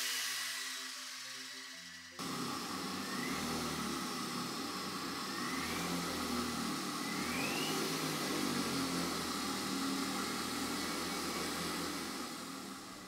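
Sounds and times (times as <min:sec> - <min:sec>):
electric motor whirring: 0:00.0 - 0:13.0
faint rising motor whine: 0:00.1 - 0:13.0.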